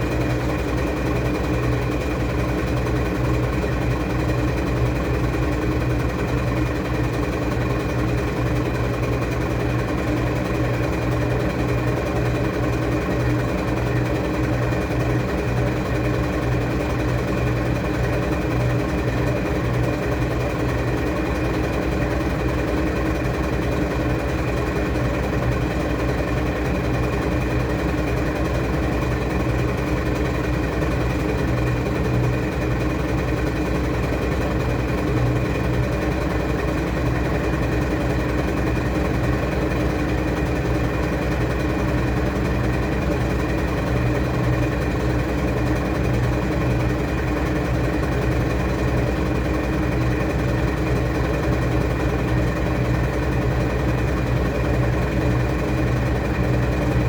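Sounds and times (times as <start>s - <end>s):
washing machine motor humming: 0.0s - 57.0s.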